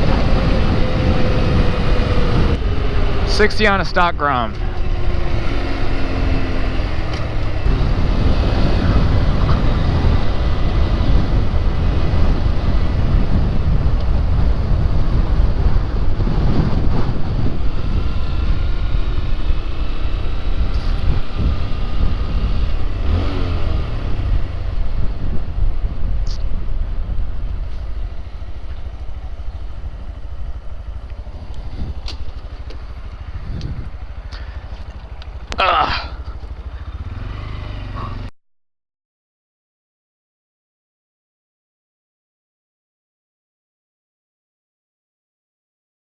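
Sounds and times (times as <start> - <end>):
faint small motorcycle engine: 0.0 - 38.3
wind rushing on microphone: 0.0 - 38.3.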